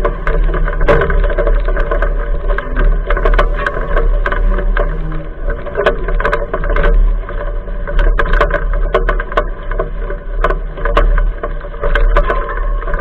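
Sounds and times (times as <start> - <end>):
bike knocking and rattling: 0.0 - 13.0
mountain bike rolling on trail: 0.0 - 13.0.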